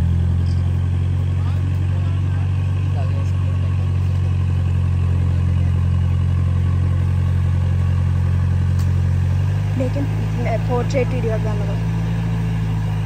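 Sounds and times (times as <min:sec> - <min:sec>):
vehicle engine idling: 0:00.0 - 0:13.0
winch hauling: 0:00.0 - 0:13.0.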